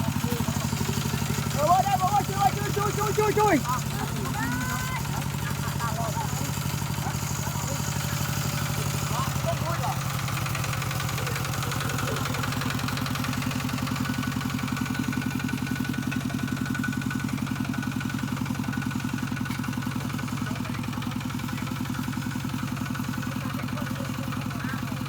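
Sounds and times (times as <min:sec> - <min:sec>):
farm machinery engine chugging: 0:00.0 - 0:25.0.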